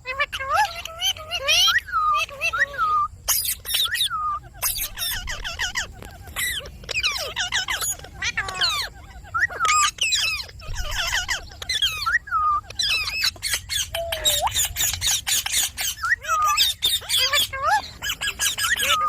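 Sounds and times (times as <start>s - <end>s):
parrot squawking and chirping: 0.0s - 19.0s.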